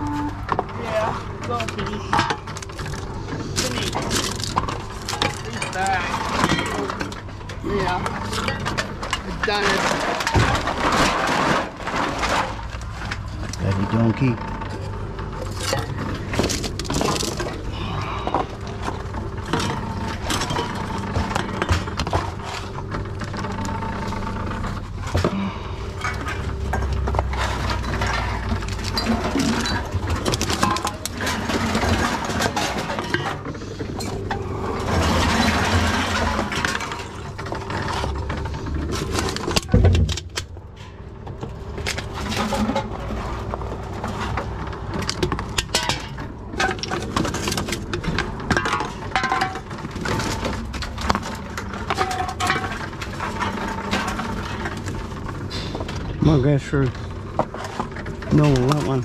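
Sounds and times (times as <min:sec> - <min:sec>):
containers clicking and clattering: 0:00.0 - 0:25.3, 0:25.9 - 0:59.0
vending machine humming: 0:00.0 - 0:59.0.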